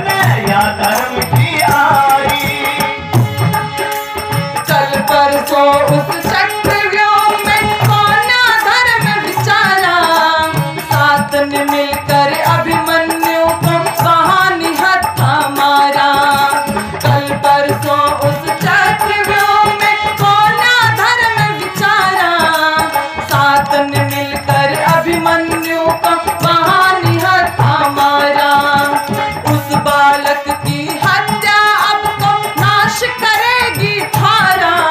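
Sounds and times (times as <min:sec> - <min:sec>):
hand drum steady beat: 0:00.0 - 0:34.9
harmonium: 0:00.0 - 0:34.9
woman singing devotional song: 0:00.0 - 0:34.9.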